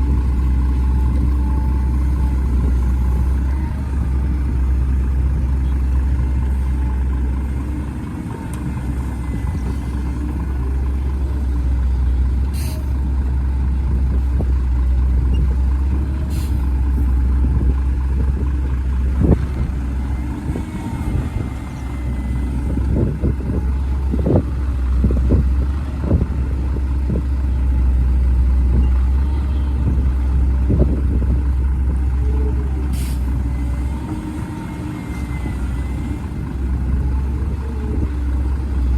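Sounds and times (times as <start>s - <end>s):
excavator diesel engine rumbling: 0.0s - 38.9s.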